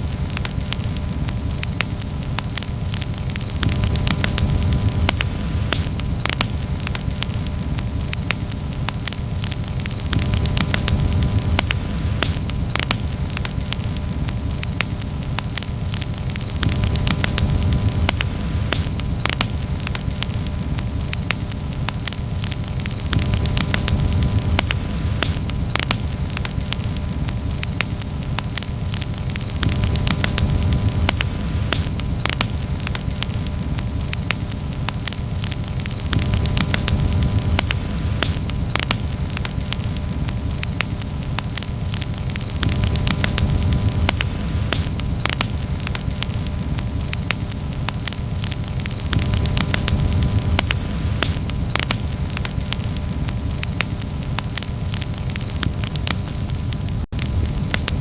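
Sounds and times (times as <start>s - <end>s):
campfire crackling and popping: 0.0s - 58.0s
low rumble of fire: 0.0s - 58.0s.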